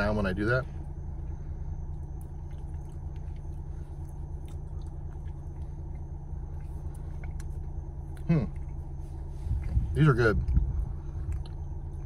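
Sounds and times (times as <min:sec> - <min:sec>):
low car cabin hum: 0:00.0 - 0:12.0
people chewing with soft crunches: 0:00.0 - 0:12.0.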